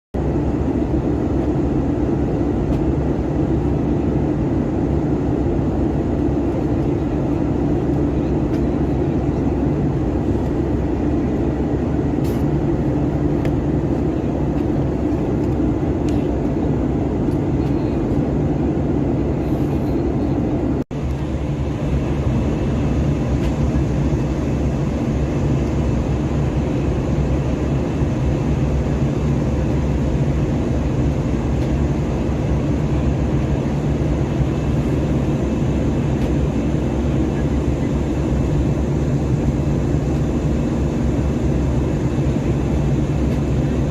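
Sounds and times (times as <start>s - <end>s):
jet engines running: 0.2s - 43.9s.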